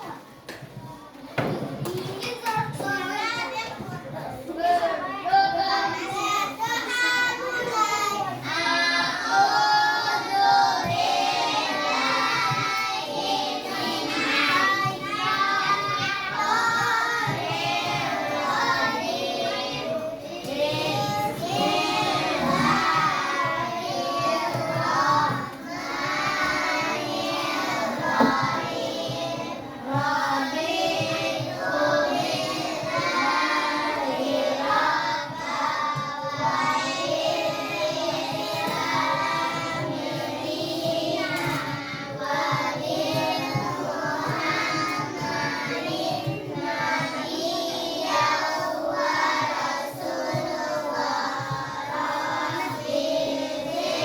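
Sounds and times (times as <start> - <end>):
children singing: 4.4 - 54.0.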